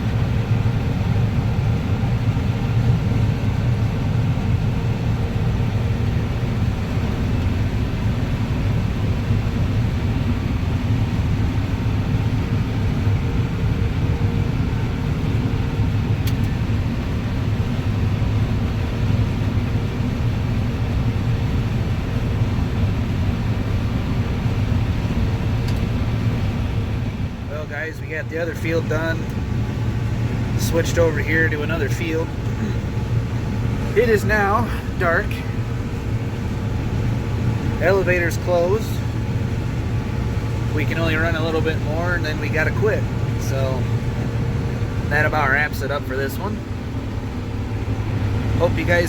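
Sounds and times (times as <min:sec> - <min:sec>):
combine harvester engine drone: 0:00.0 - 0:49.0.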